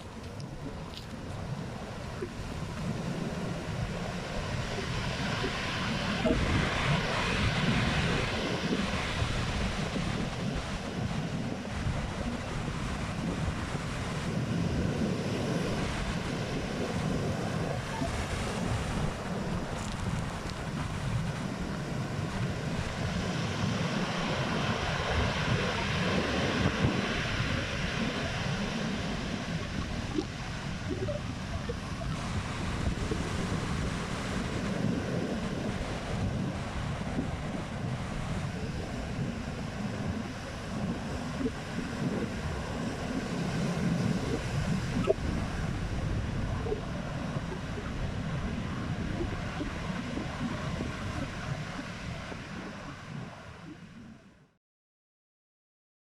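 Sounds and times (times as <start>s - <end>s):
waves breaking on shore: 0.0s - 54.1s
wind buffeting microphone: 0.0s - 54.3s.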